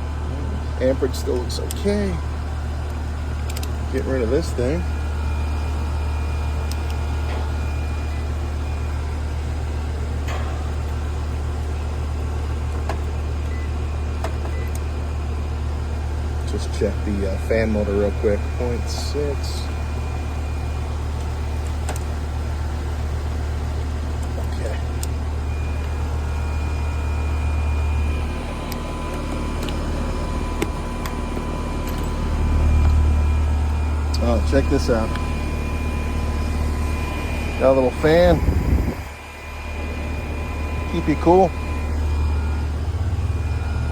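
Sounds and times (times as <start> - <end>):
air conditioning unit humming: 0.0 - 43.9.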